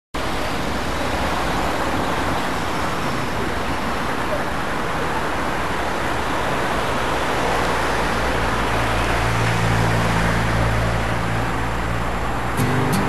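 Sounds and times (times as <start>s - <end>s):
road traffic engine hum: 0.2s - 13.0s.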